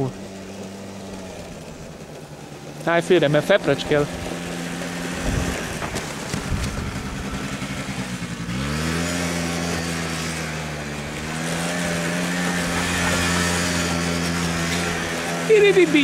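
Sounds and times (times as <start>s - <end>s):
quad bike engine running: 0.0s - 16.0s.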